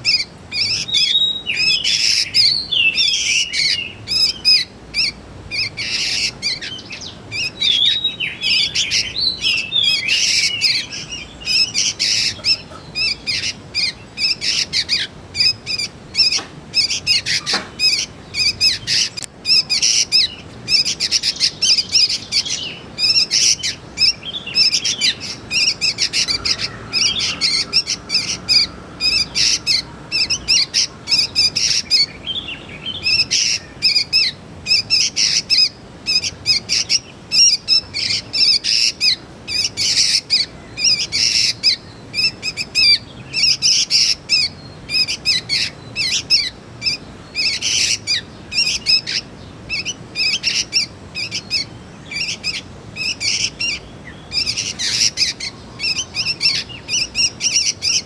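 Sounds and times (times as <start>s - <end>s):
young birds chirping rapidly: 0.0s - 58.0s.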